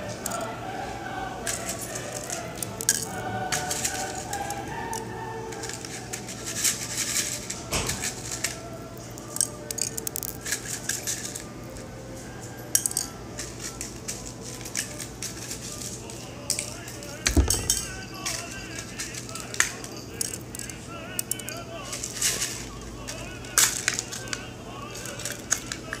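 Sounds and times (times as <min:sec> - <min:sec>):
faint background music: 0:00.0 - 0:26.0
kitchen things clicking: 0:01.4 - 0:26.0.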